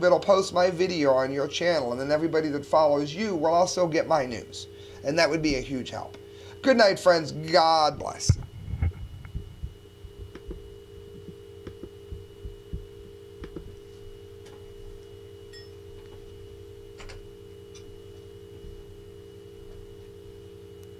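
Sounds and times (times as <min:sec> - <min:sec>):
electrical hum: 0:00.0 - 0:20.9
high-pitched whine: 0:00.0 - 0:20.9.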